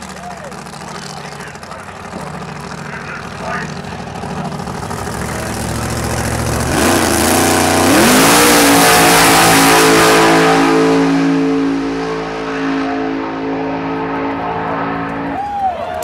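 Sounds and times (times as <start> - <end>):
drag racing car engine revving: 0.0 - 15.4.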